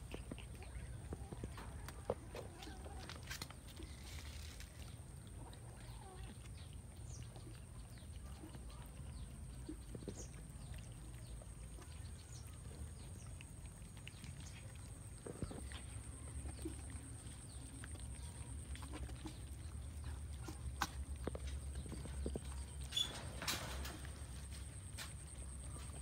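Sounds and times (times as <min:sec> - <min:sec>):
cats chewing and licking: 0:00.0 - 0:26.0.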